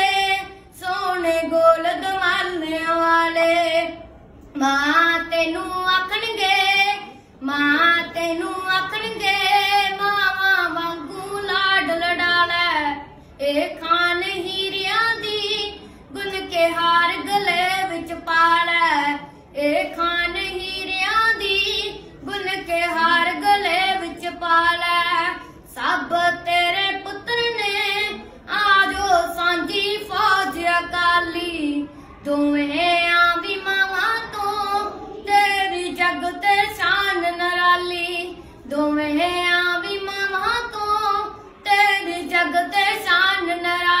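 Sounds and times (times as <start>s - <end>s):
boy singing unaccompanied: 0.0s - 44.0s.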